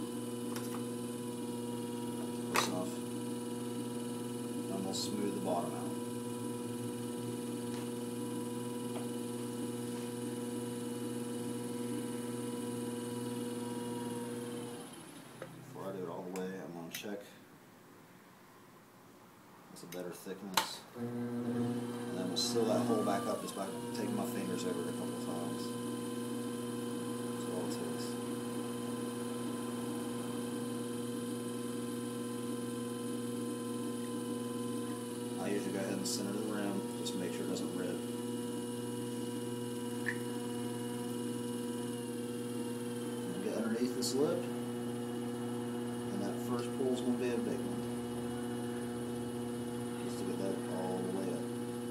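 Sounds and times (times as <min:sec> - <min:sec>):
potter's wheel motor humming: 0:00.0 - 0:16.0, 0:21.0 - 0:51.9.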